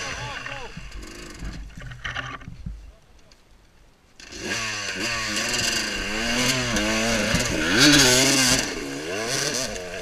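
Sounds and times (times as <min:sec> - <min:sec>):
motorcycle engine starting and revving: 0:00.0 - 0:02.4, 0:04.2 - 0:10.0.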